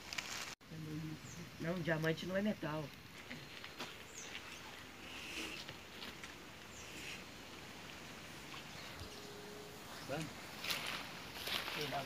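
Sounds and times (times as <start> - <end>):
rustling in dry leaves: 0.0 - 12.0.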